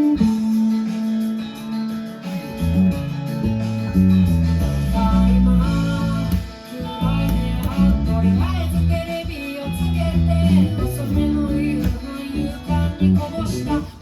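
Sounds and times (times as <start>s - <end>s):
electric bass line: 0.0s - 14.0s
rock band music: 0.0s - 14.0s.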